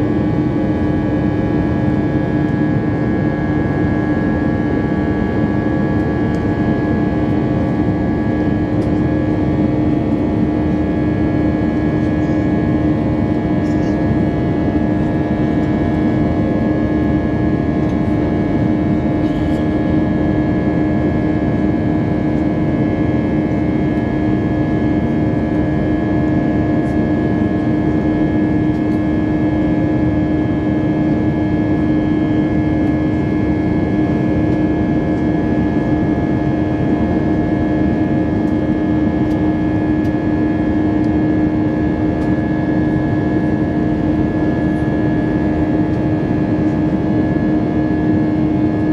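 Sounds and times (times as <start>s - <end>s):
aircraft engine drone: 0.0s - 48.9s.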